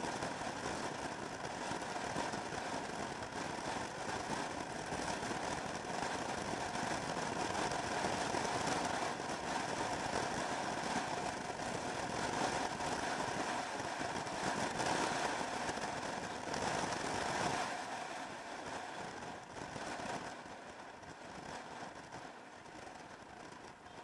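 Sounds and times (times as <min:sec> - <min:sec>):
scooter engine and road noise: 0:00.0 - 0:24.0.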